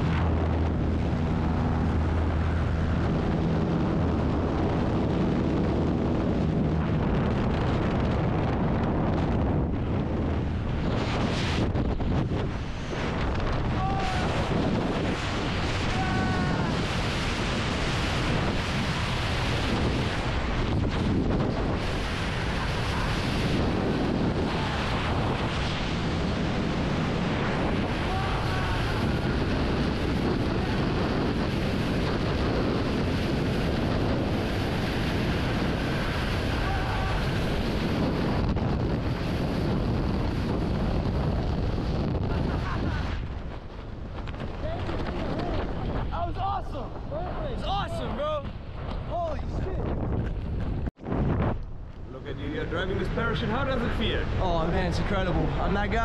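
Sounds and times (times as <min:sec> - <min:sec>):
strong wind rushing: 0:00.0 - 0:56.0.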